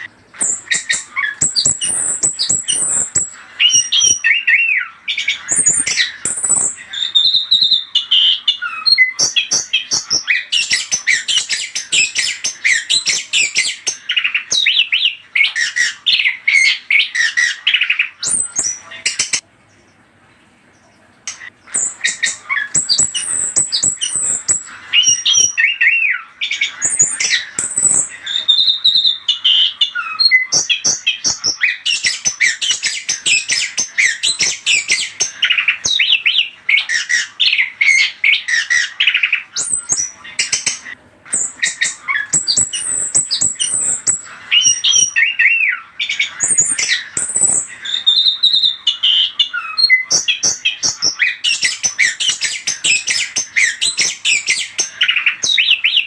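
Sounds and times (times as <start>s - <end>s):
thrush singing chirps and whistles: 0.0s - 19.4s, 21.3s - 56.0s.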